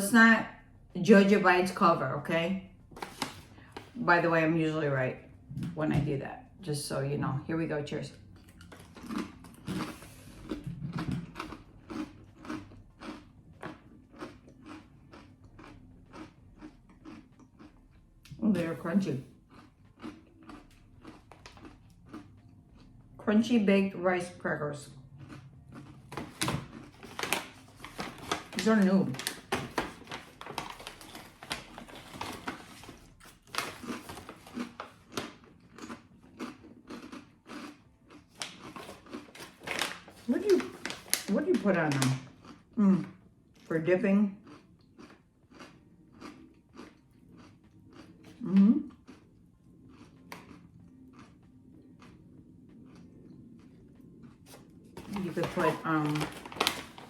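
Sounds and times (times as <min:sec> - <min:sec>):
person chewing crunchy crackers: 0:08.2 - 0:23.2, 0:24.9 - 0:41.3, 0:42.0 - 0:43.7, 0:44.4 - 0:57.0.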